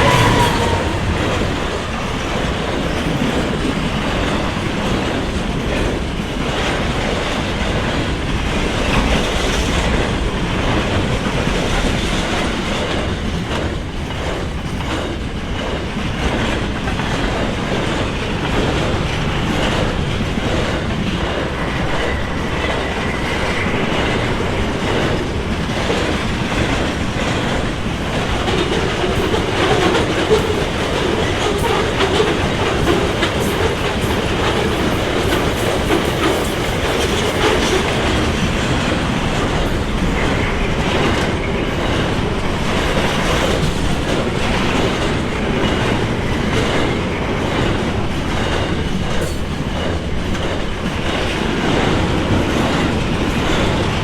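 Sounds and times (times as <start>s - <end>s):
train rumbling past: 0.0s - 54.0s
wheels clicking over rail joints: 0.0s - 54.0s.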